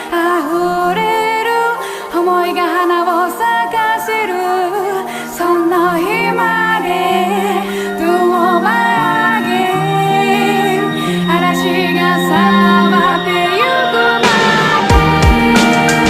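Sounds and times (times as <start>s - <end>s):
woman singing: 0.0s - 16.0s
sustained synth notes: 0.5s - 16.0s.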